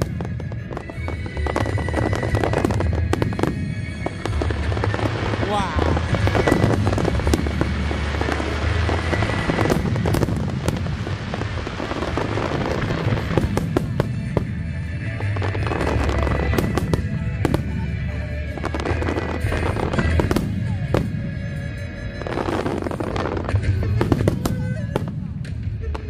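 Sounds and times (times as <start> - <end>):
fireworks bursting and crackling: 0.0 - 26.0
sharp firework bangs: 0.0 - 26.0.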